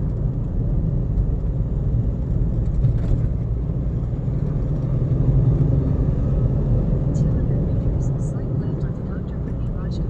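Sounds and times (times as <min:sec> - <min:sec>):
car driving along a road: 0:00.0 - 0:10.0.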